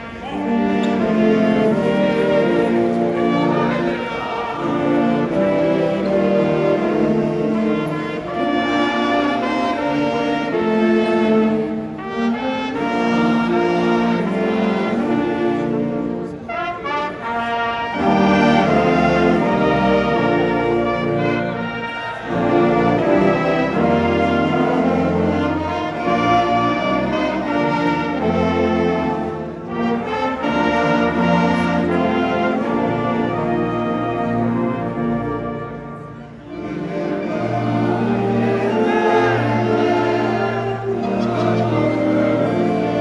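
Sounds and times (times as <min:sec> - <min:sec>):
brass pep band playing: 0:00.0 - 0:43.0.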